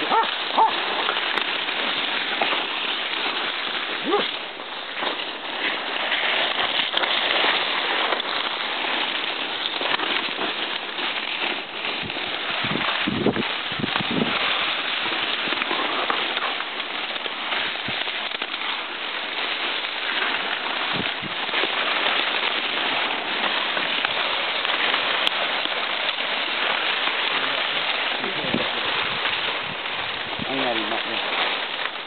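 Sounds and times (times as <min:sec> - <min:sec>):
fronds and clothing rustling: 0:00.0 - 0:32.0.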